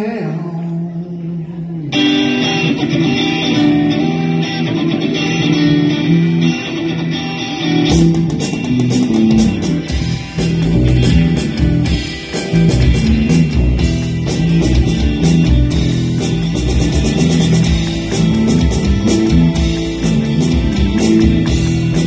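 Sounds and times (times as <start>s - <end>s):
rock band playing instrumental: 1.9s - 22.0s.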